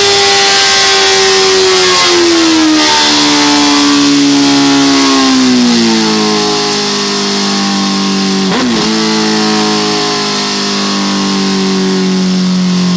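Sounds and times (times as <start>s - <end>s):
motorcycle engine revving on dyno: 0.0s - 12.9s.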